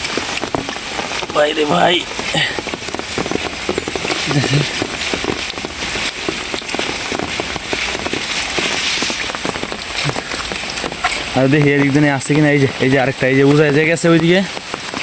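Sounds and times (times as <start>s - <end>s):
rain falling: 0.0s - 15.0s
raindrops striking surfaces: 0.0s - 15.0s.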